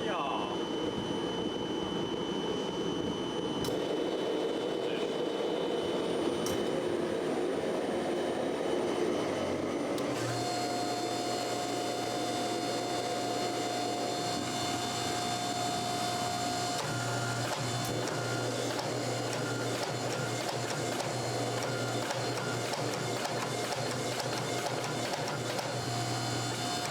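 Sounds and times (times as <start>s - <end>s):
machine rushing hum: 0.0s - 26.9s
machine whine with held tone: 0.0s - 26.9s.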